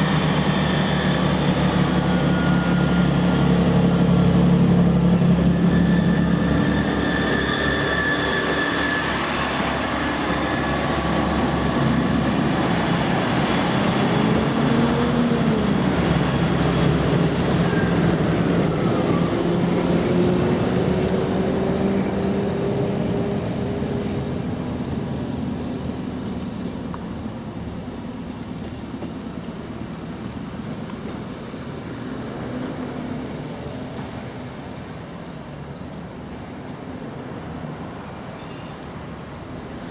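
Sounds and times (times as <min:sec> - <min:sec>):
diesel train passing: 0:00.0 - 0:39.9.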